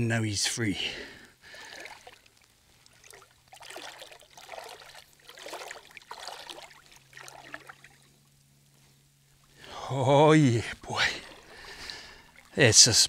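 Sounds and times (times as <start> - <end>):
surf water sloshing: 0.7 - 13.0.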